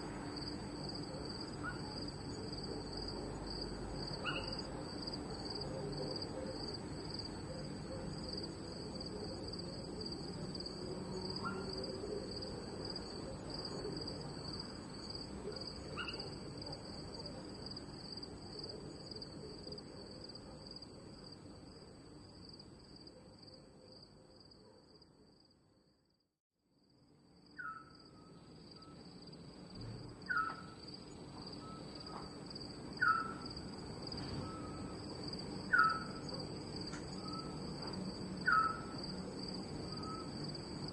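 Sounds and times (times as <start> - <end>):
crickets chirping: 0.0 - 25.6, 26.9 - 40.9.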